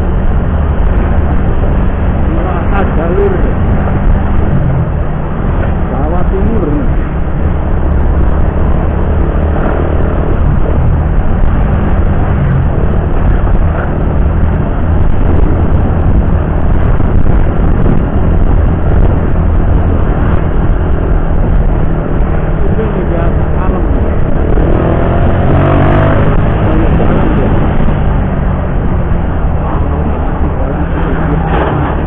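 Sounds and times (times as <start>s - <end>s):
motorcycle engine on highway: 0.0s - 32.0s
tyre and wind rumble: 0.0s - 32.0s.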